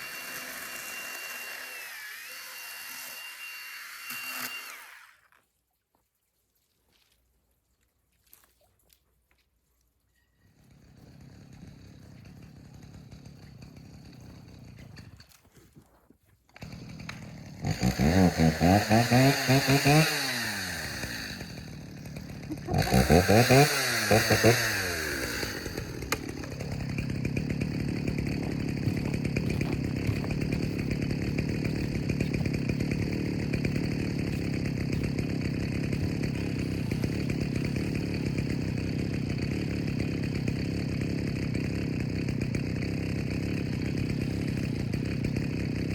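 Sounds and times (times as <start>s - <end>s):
chainsaw revving and idling: 0.0s - 5.2s, 10.5s - 15.2s, 16.5s - 45.9s.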